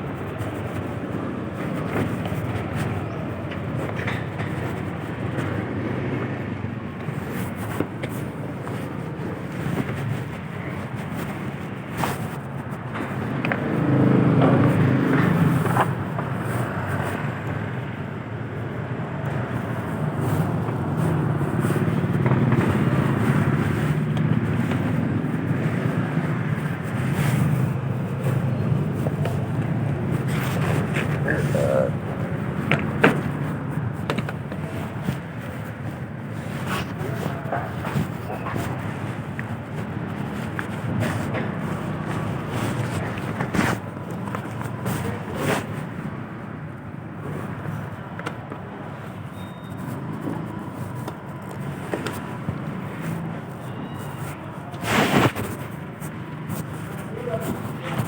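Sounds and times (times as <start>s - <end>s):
vehicle engine and road rumble: 0.0s - 58.0s.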